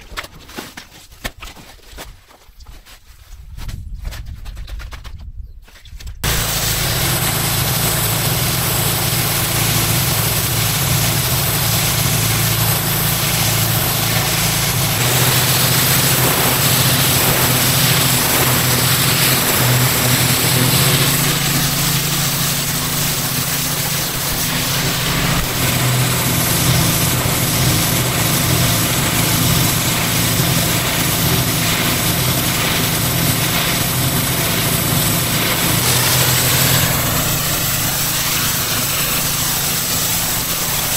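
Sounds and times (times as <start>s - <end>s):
high-pressure water jet hiss: 6.2s - 40.9s
pressure washer engine running: 6.2s - 40.9s.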